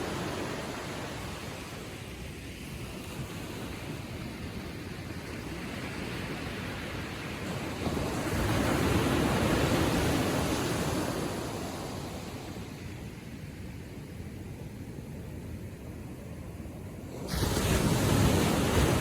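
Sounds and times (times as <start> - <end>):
waves lapping on sandy shore: 0.0 - 19.0.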